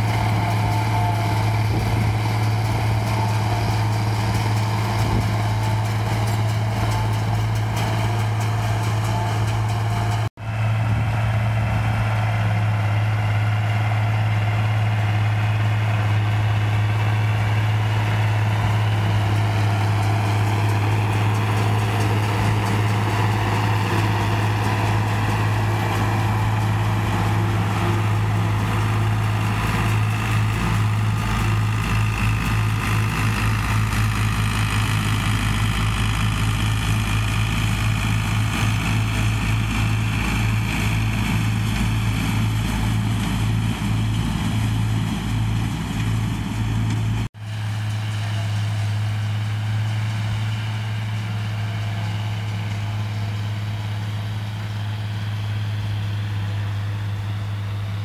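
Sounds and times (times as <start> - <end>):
forage chopper machine noise: 0.0 - 58.0
tractor diesel engine running: 0.0 - 58.0.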